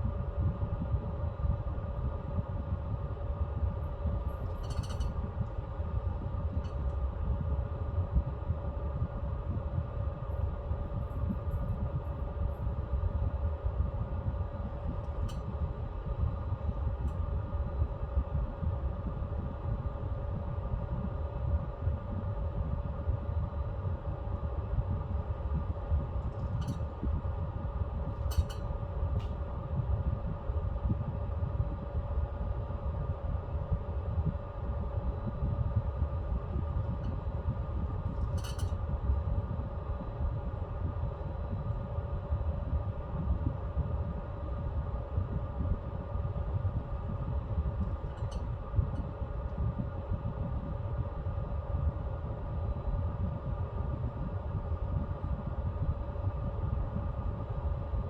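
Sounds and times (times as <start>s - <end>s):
fan hum: 0.0s - 58.0s.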